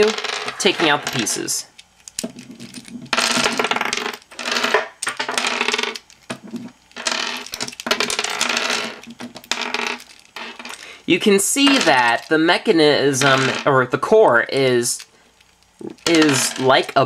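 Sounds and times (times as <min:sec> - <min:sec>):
plastic puzzle pieces clattering: 0:00.0 - 0:17.0.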